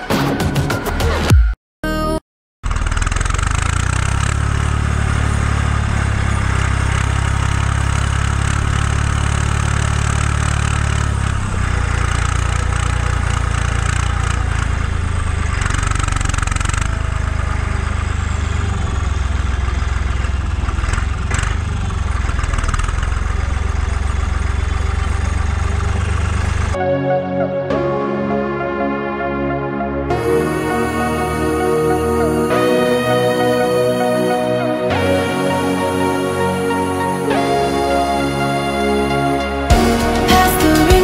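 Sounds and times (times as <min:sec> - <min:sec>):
tractor diesel engine running: 0:02.6 - 0:26.8, 0:30.1 - 0:41.0.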